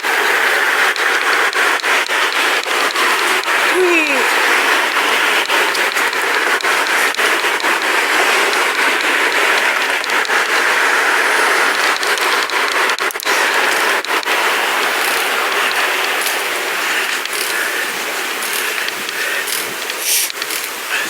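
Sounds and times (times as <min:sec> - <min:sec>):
bicycle tyres rolling: 0:00.0 - 0:21.0
bicycle rattling clicks: 0:00.8 - 0:03.6, 0:04.4 - 0:21.0.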